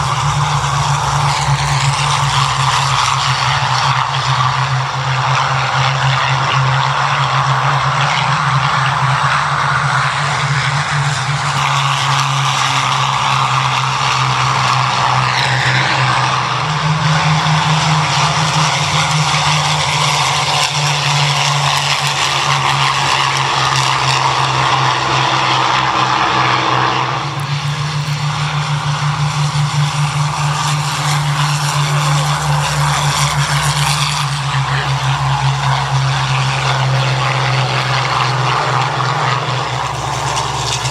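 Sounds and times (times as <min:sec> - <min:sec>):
piston aircraft engines droning: 0:00.0 - 0:40.9.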